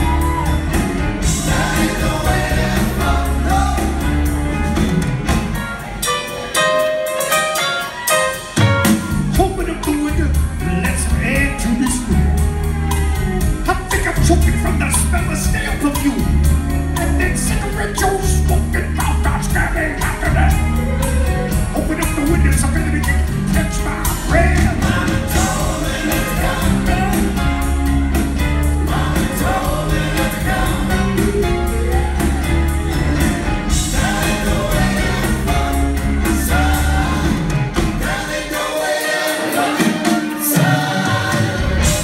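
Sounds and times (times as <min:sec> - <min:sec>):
driving drum beat: 0:00.0 - 0:06.3, 0:08.5 - 0:42.0
rock band playing live: 0:00.0 - 0:42.0.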